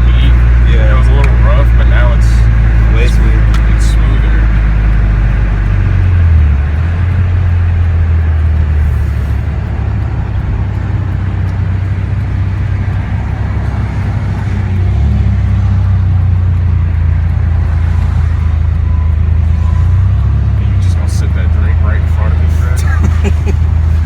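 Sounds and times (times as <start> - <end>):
car engine and exhaust droning: 0.0 - 24.0
road noise: 0.0 - 24.0.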